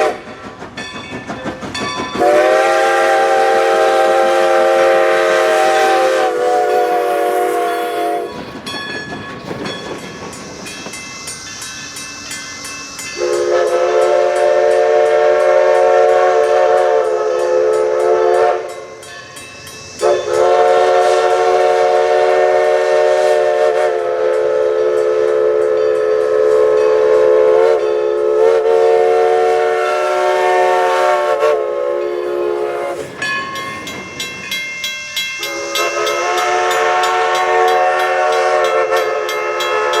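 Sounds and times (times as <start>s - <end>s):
steam locomotive chime whistle: 0.0s - 40.0s.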